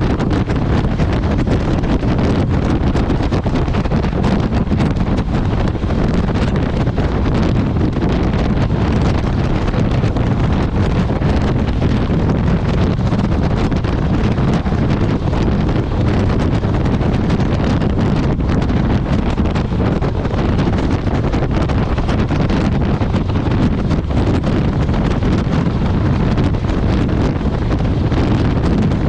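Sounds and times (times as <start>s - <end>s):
motorcycle running: 0.0s - 29.0s
wind buffeting microphone: 0.0s - 29.0s.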